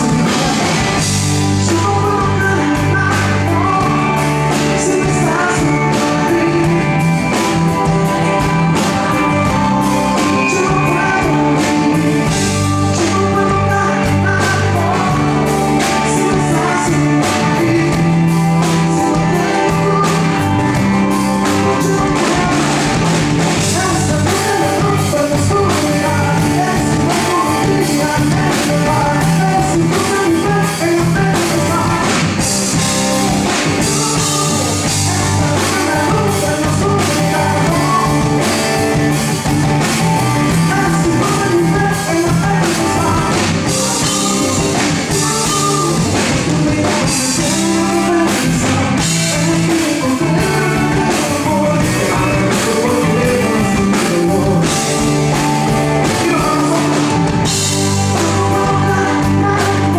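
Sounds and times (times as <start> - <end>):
man singing live: 0.0 - 59.9
pop-rock band with electric guitar: 0.0 - 59.9.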